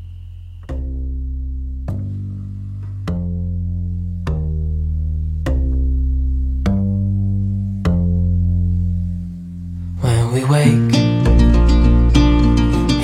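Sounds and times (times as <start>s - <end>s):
music chords: 0.0s - 13.0s
sustained low bass: 0.0s - 13.0s.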